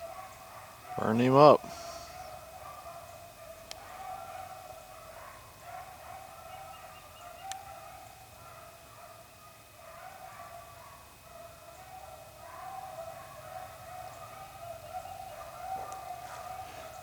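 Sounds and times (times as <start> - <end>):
distant beagles baying: 0.0 - 17.0.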